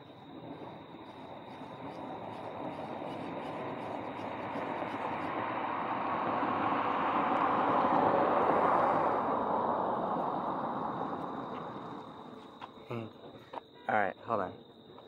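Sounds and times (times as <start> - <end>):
car passing: 0.0 - 13.1.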